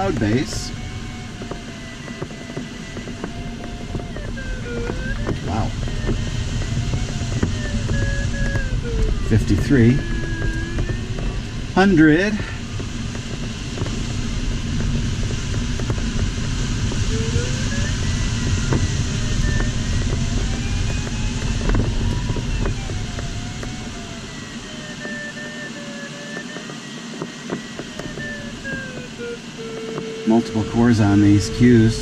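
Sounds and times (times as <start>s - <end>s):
electronic tone sliding in pitch: 0.0s - 15.1s, 16.3s - 32.0s
airflow rushing over cockpit: 0.0s - 32.0s.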